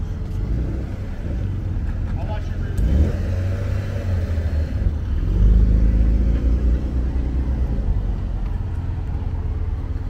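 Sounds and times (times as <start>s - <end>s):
car engine rumbling past: 0.0s - 10.0s.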